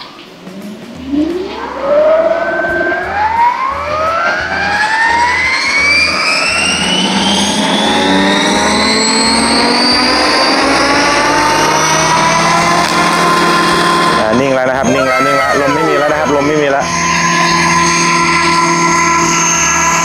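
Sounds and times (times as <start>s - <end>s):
motor and rotor whine: 0.2s - 20.0s.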